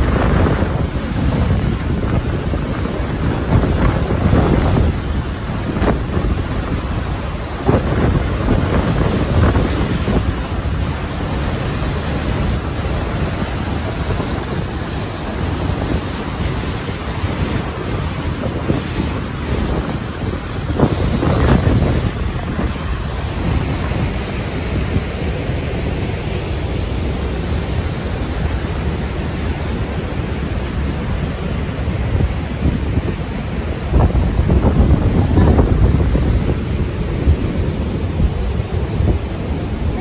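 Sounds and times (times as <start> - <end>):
waterfall rushing: 0.0 - 40.0
wind buffeting microphone: 0.0 - 40.0.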